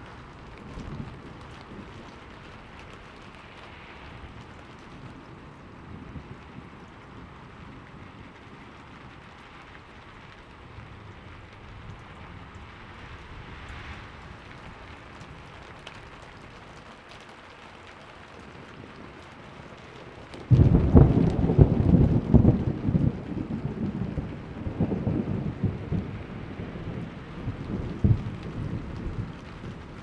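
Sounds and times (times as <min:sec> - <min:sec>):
steady rain: 0:00.0 - 0:30.0
thunder crack and rumble: 0:00.0 - 0:30.0.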